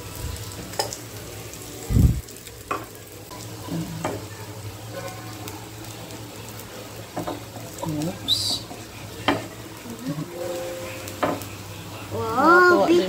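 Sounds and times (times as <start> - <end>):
batter sizzling on a hot griddle: 0.0 - 13.0.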